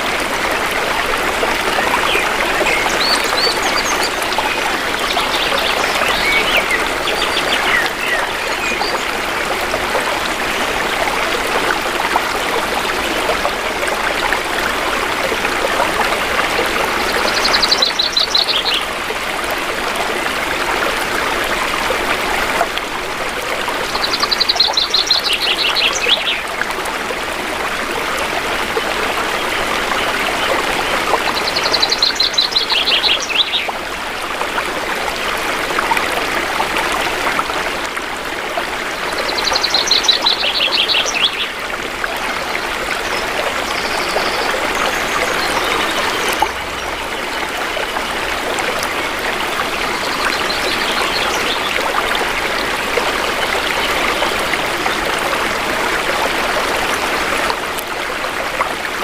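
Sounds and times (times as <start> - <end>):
shallow river water flowing: 0.0 - 59.0.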